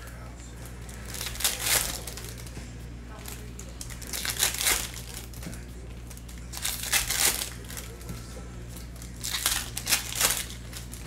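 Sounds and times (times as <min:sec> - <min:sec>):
card pack wrappers crinkling and tearing: 0:00.0 - 0:02.6, 0:03.2 - 0:08.1, 0:08.7 - 0:11.0.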